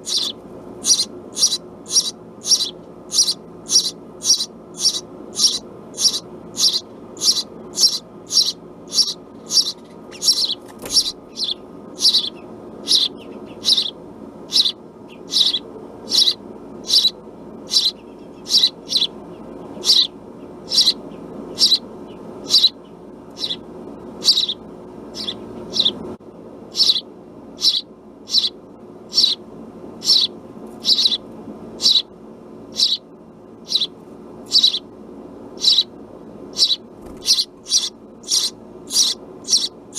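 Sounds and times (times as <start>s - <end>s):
sparrow chirping: 0.0s - 26.0s, 26.7s - 27.0s, 27.6s - 29.4s, 30.0s - 31.2s, 31.8s - 32.1s, 32.7s - 33.0s, 33.6s - 34.9s, 35.6s - 35.9s, 36.5s - 39.9s
steady low hum: 0.0s - 39.9s.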